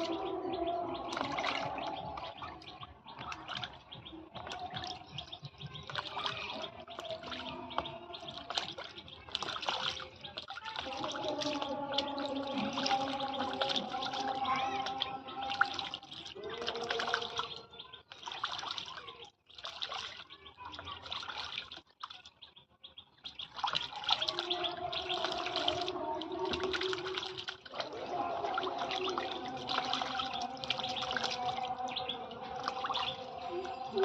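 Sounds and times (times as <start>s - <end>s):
running water stream: 0.0s - 22.4s, 23.3s - 34.0s
water splashing: 0.0s - 22.6s, 23.2s - 34.0s.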